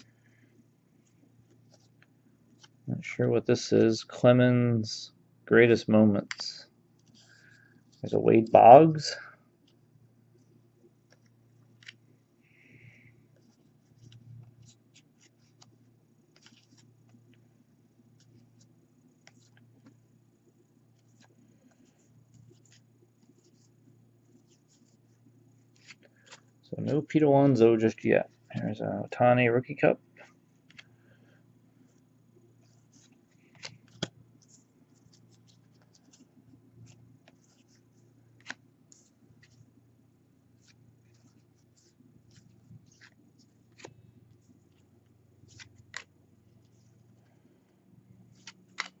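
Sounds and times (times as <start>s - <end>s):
low steady hum: 0.0s - 49.0s
trading cards rustling: 6.2s - 20.2s, 20.8s - 29.2s, 29.8s - 39.8s, 40.4s - 49.0s.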